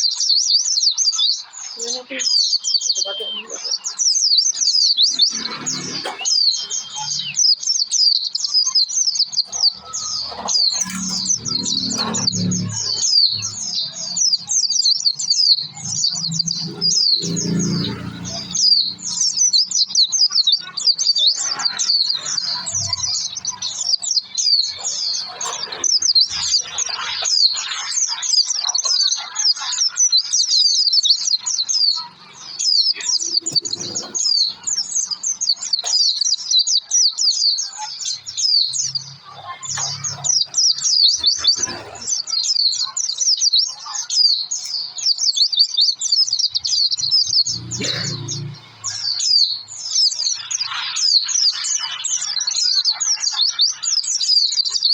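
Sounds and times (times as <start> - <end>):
bird twittering chirps: 0.0 - 54.9.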